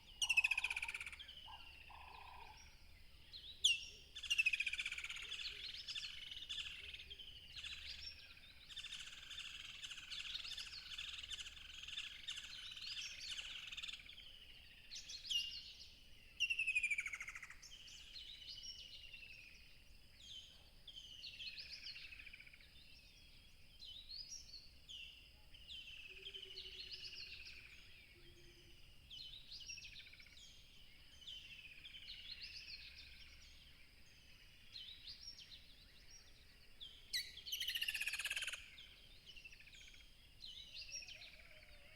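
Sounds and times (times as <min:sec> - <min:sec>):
wild birds singing: 0:00.0 - 0:41.9.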